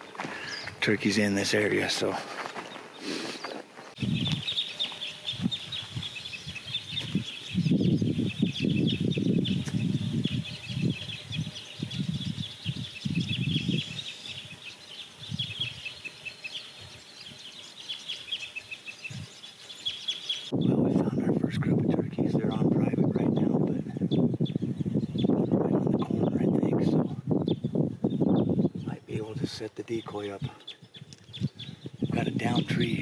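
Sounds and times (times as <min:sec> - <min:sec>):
birds chattering: 0:00.0 - 0:33.0.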